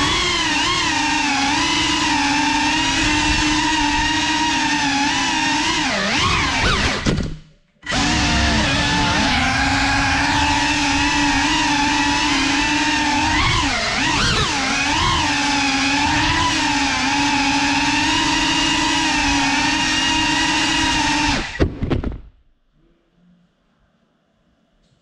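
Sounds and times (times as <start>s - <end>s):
drone motors whining: 0.0s - 7.2s, 7.8s - 21.6s.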